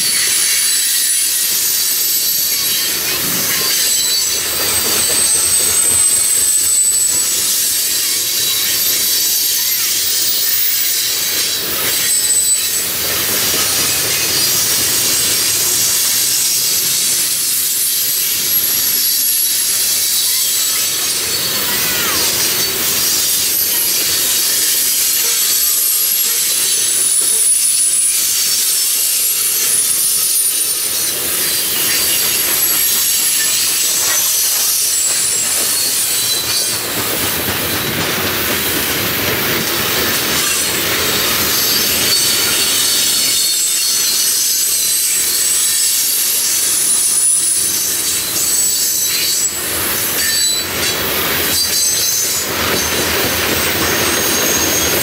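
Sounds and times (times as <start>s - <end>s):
high-pitched wheel squeal: 0.0s - 55.0s
steel wheels rumbling on rail: 0.0s - 55.0s.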